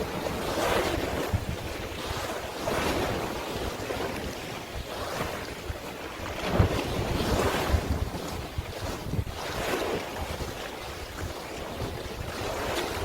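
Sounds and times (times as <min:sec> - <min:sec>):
sea waves washing in: 0:00.0 - 0:13.0
wind buffeting microphone: 0:00.0 - 0:13.0.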